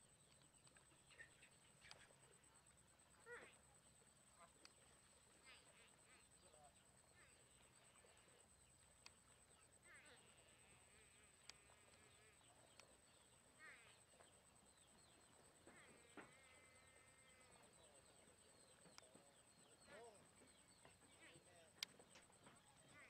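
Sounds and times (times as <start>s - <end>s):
soft chirps and trills: 0.0s - 23.0s.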